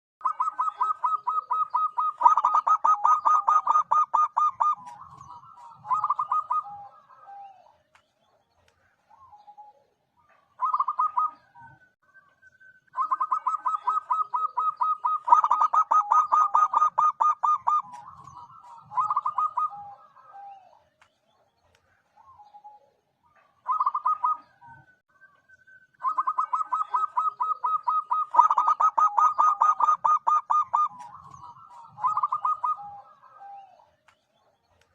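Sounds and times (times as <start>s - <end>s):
dove staccato cooing: 0.2s - 11.9s, 13.0s - 25.0s, 26.0s - 34.9s.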